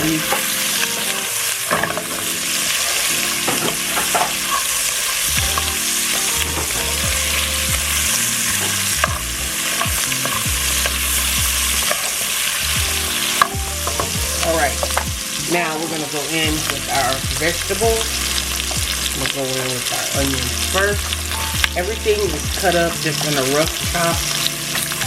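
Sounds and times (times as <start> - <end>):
food sizzling in a hot pan: 0.0 - 25.0.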